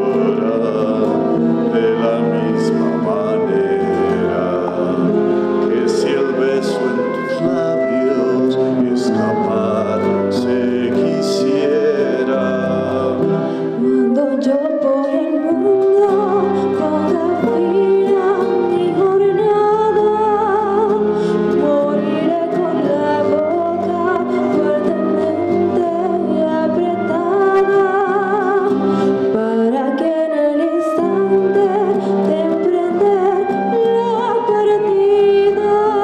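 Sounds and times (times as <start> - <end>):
woman singing: 0.0 - 13.2, 13.8 - 36.0
strummed acoustic guitar: 0.0 - 14.2, 15.0 - 30.0, 30.7 - 36.0.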